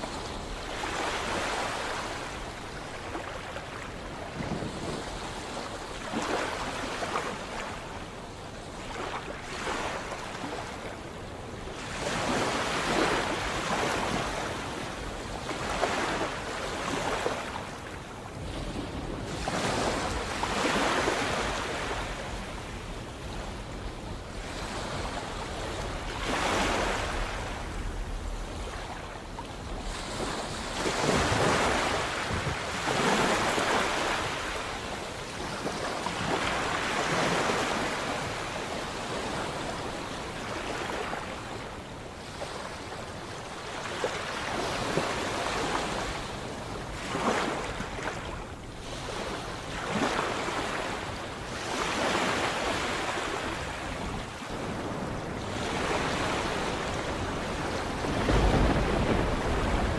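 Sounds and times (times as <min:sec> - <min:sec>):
sea waves breaking: 0:11.7 - 0:59.9.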